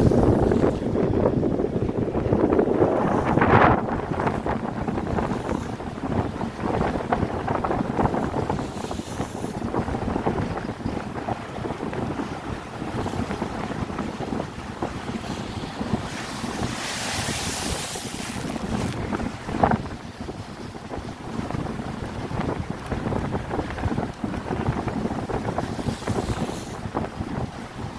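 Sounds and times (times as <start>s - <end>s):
gusty wind buffeting microphone: 0.0s - 27.9s
waves on rocky shoreline: 0.0s - 27.9s.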